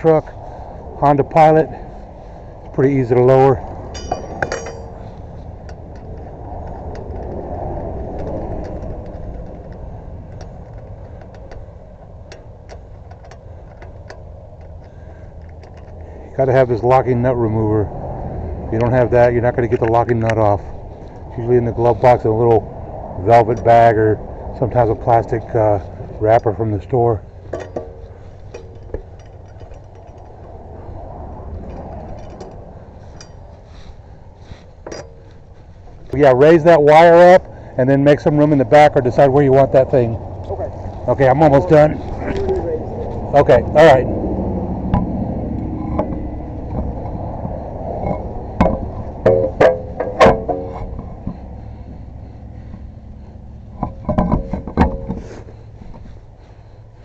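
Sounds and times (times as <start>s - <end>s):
road traffic rumble: 0.0s - 57.0s
vehicle passing: 0.0s - 57.0s.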